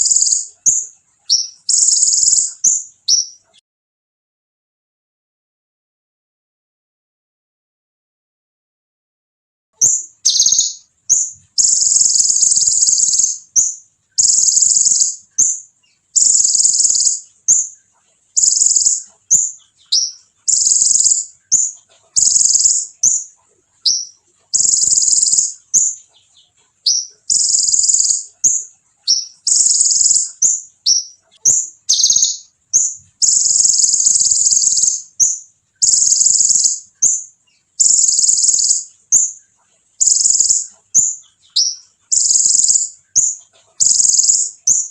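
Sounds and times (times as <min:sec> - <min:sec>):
sunbird singing shrill phrases: 0:00.0 - 0:03.5, 0:09.8 - 0:44.9.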